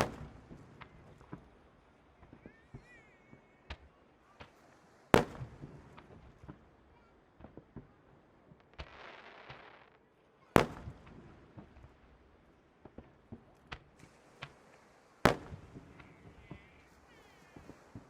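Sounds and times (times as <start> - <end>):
crackling hiss: 0.0 - 18.0
fireworks booming: 0.0 - 18.0
small firework pops: 0.0 - 18.0.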